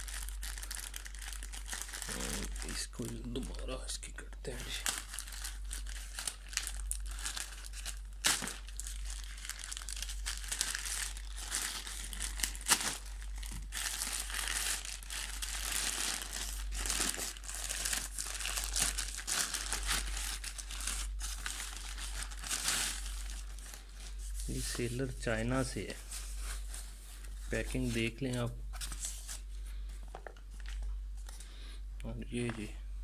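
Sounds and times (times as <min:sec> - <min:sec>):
plastic bag crinkling: 0:00.0 - 0:31.5.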